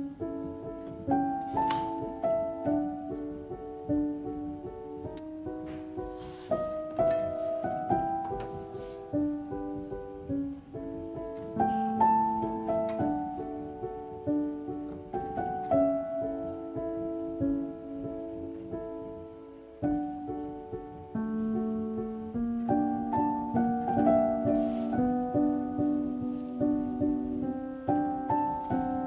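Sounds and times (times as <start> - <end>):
calm instrumental music: 0.0 - 29.0.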